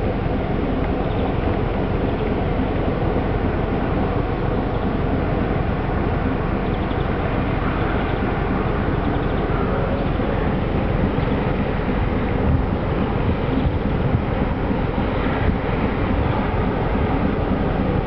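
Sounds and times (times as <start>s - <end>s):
diesel ship engine drone: 0.0s - 18.0s
water rushing at bow: 0.0s - 18.0s.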